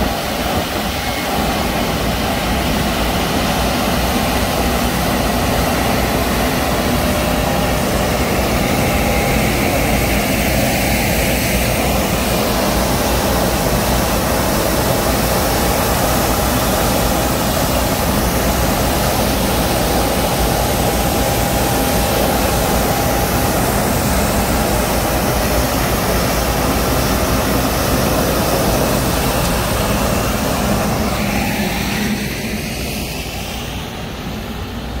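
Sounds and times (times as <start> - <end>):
faint steady whine: 0.0 - 35.0
road sweeper engine drone: 0.0 - 35.0.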